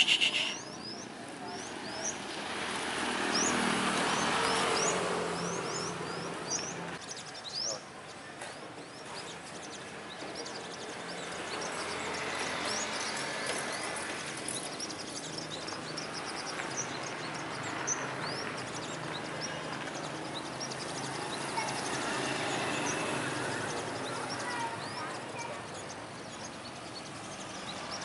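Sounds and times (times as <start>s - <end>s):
road traffic rushing: 0.0s - 28.0s
small birds chirping: 0.0s - 28.0s.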